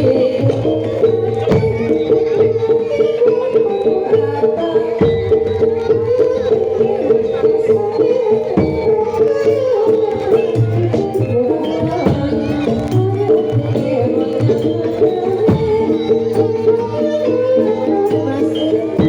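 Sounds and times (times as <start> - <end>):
hand drums beating: 0.0 - 19.0.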